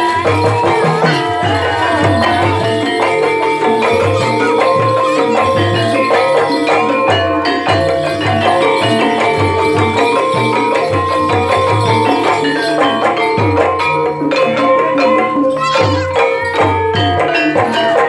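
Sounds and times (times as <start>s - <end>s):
hand drums beating: 0.0s - 18.0s
ringing gong-chime and metallophone: 0.0s - 18.0s.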